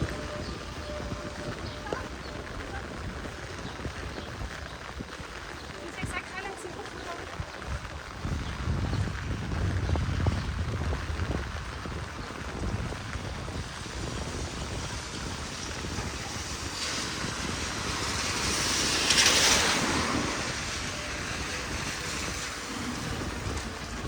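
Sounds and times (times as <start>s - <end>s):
heavy rain hissing: 0.0s - 24.0s
vehicle passing on wet street: 0.0s - 24.0s.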